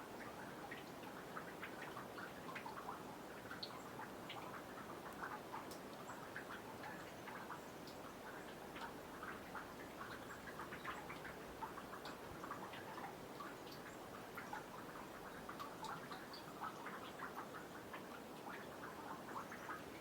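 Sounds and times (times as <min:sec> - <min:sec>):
meltwater dripping into pond: 0:00.0 - 0:20.0.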